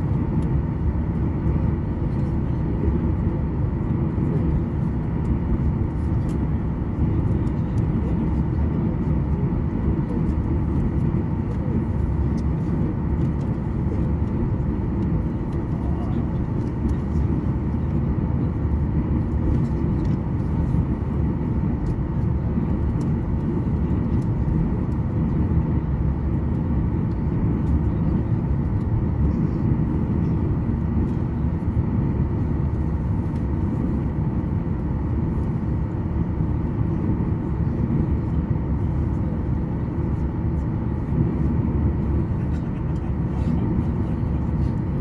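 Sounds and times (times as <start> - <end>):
jet cabin engine rumble: 0.0 - 45.0.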